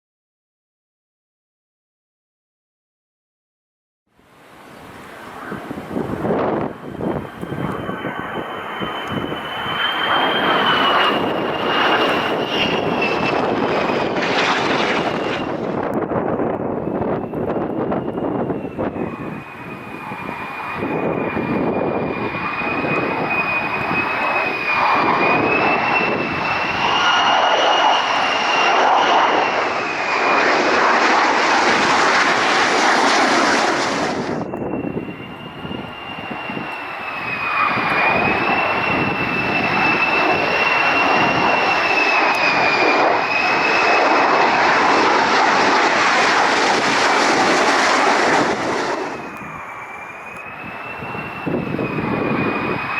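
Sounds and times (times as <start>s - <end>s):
jet engine whine and roar: 4.2s - 52.9s.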